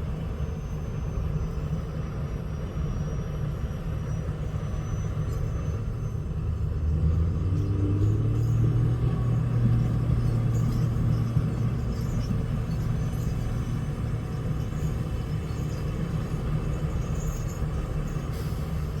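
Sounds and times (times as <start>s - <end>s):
diesel engine droning under load: 0.0s - 19.0s.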